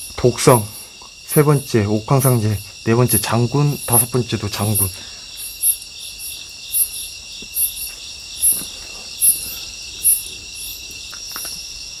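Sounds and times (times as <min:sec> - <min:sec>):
crickets and insects trilling: 0:00.0 - 0:12.0
insect chirping: 0:00.0 - 0:12.0.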